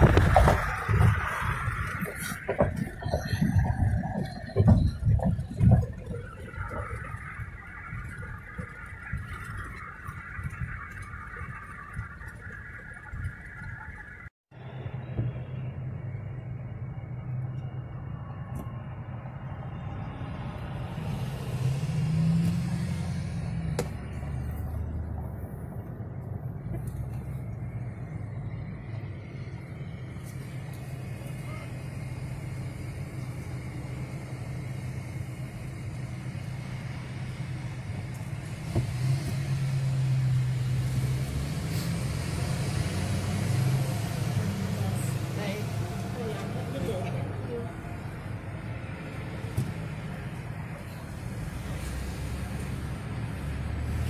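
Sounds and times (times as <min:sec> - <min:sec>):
car engine humming: 0:00.0 - 0:54.0.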